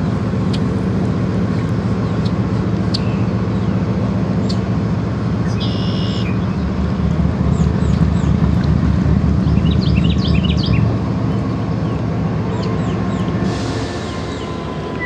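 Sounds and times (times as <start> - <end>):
loud low rumble: 0.0 - 15.0
songbirds chirping: 1.5 - 4.7, 5.3 - 6.8, 7.4 - 15.0.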